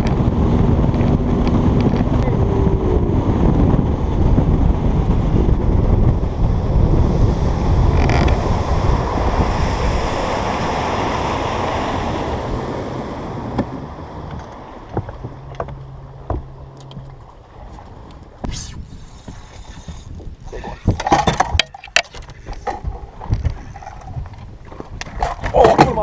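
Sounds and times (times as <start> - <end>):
water rushing against boat: 0.0 - 26.0
wind buffeting microphone: 0.0 - 26.0.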